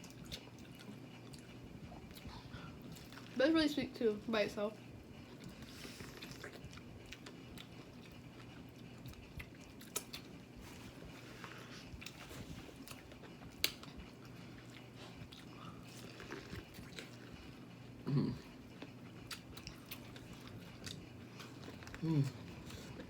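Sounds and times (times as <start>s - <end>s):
person chewing food: 0.0s - 3.4s, 5.1s - 23.0s.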